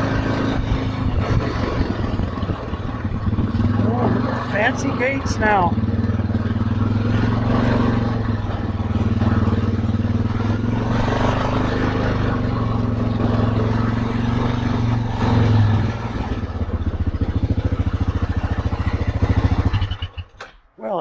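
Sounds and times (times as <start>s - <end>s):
quad bike engine running: 0.0s - 20.6s.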